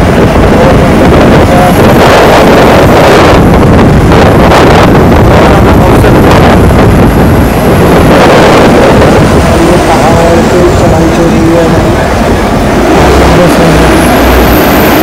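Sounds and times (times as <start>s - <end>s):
bus road noise: 0.0s - 15.0s
wind buffeting microphone: 0.0s - 15.0s.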